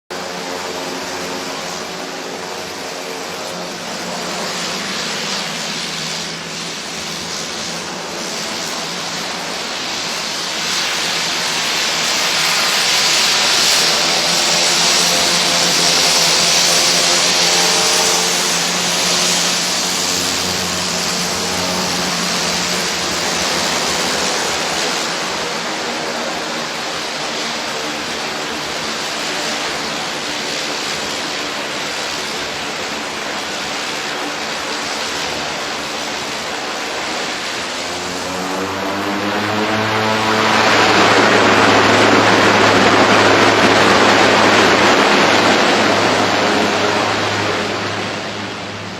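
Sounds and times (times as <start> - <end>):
propeller aircraft engines running: 0.0 - 48.9.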